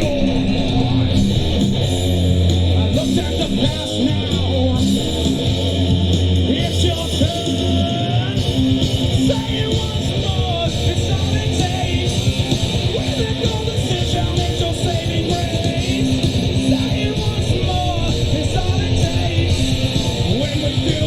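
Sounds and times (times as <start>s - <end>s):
bass guitar: 0.0s - 21.0s
drums: 0.0s - 21.0s
electric guitar: 0.0s - 21.0s
person singing: 2.7s - 5.5s, 6.4s - 21.0s.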